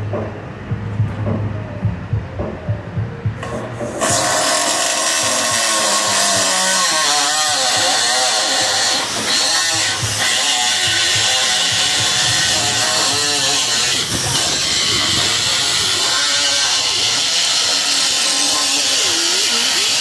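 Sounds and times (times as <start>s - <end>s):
air grinder cutting steel: 3.4s - 20.0s.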